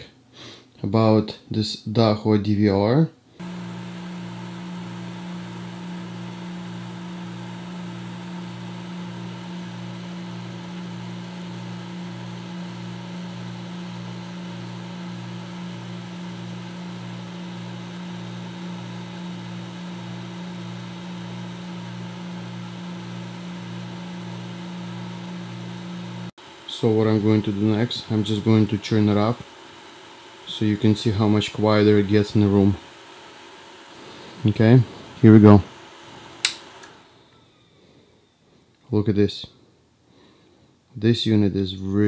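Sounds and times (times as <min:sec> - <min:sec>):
cooling fan whirring: 0:03.3 - 0:38.4.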